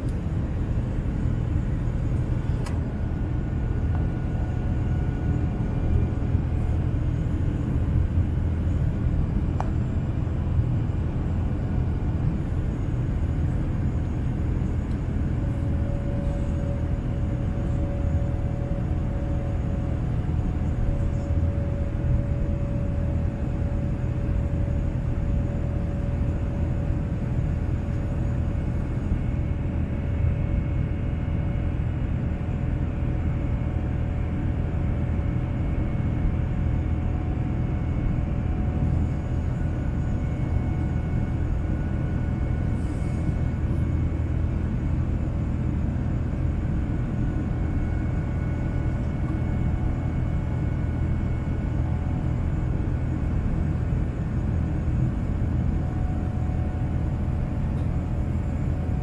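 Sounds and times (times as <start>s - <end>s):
faint whining tones: 0.0s - 59.0s
jet engines rumbling in cabin: 0.0s - 59.0s.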